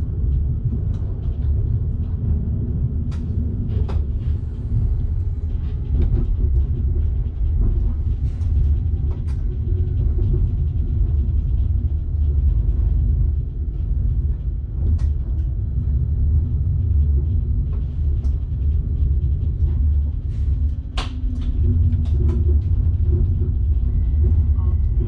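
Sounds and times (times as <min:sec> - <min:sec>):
train running low rumble: 0:00.0 - 0:25.0.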